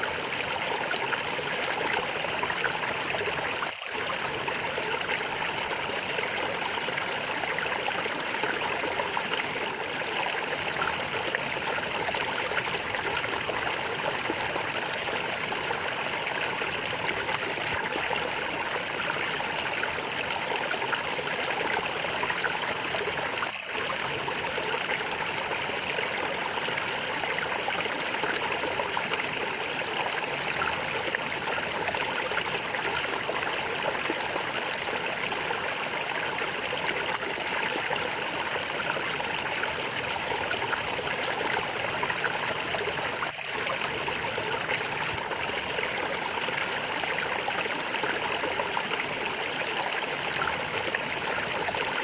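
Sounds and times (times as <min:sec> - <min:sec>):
water flowing and gurgling: 0:00.0 - 0:52.0.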